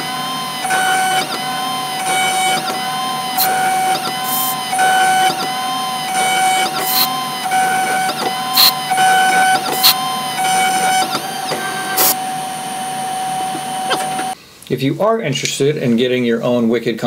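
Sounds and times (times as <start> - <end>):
high spindle whine: 0.0 - 14.4
motors whirring in spurts: 0.0 - 14.4.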